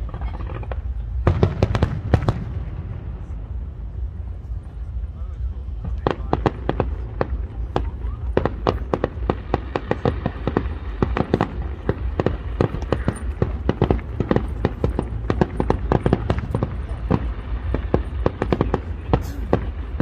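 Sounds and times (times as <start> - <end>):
fireworks bangs and crackles: 0.0 - 20.0
low rumble: 0.0 - 20.0.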